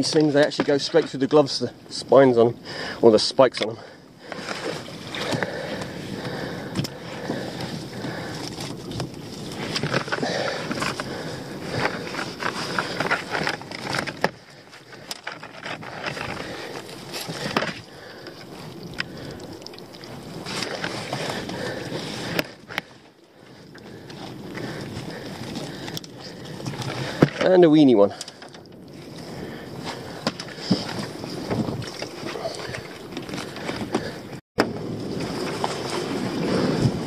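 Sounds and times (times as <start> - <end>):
net and rope rustling: 4.2 - 34.4.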